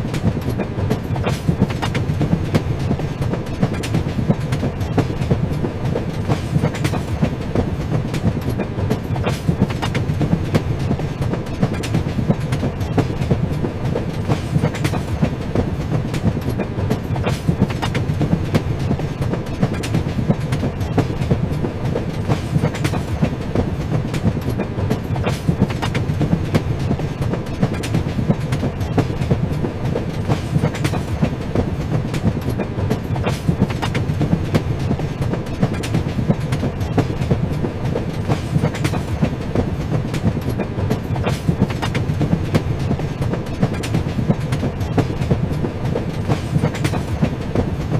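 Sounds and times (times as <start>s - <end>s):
train rumbling on track: 0.0s - 47.9s
wheels clicking over rail joints: 0.0s - 47.9s.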